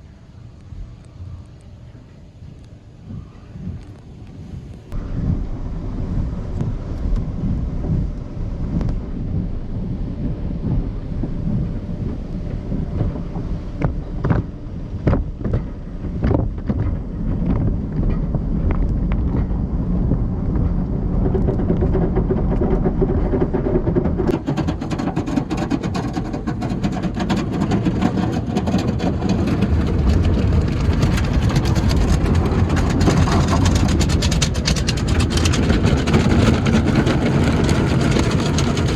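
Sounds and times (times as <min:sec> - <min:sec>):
car wash equipment rushing rumble: 0:02.8 - 0:38.9.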